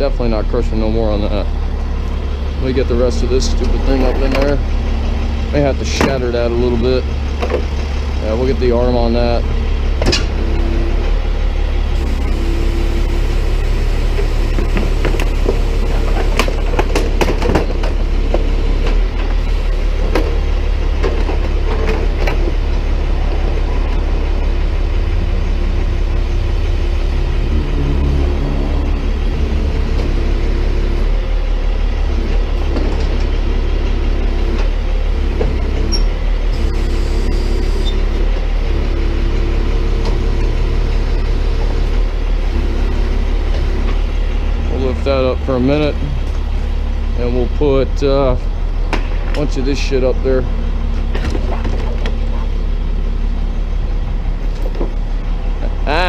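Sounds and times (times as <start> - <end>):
tow truck engine running: 0.0 - 56.0.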